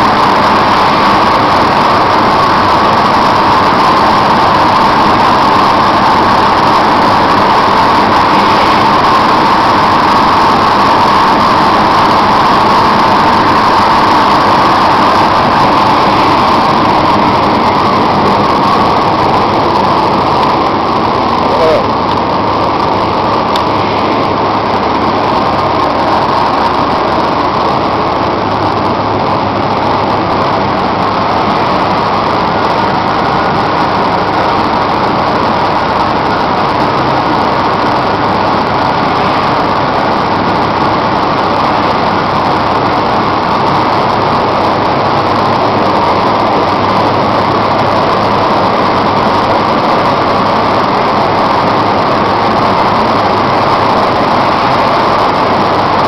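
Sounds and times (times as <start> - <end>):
coffee dryer machine running: 0.0 - 56.0.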